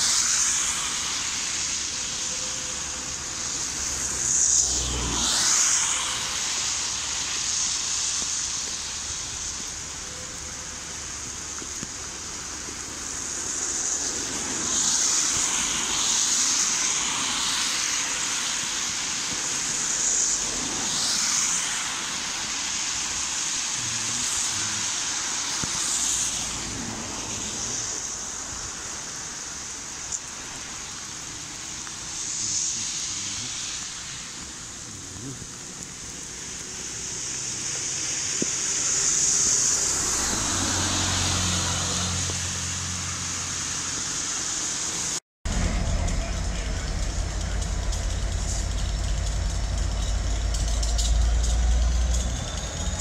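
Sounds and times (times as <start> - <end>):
car tyres hissing on wet road: 0.0 - 53.0.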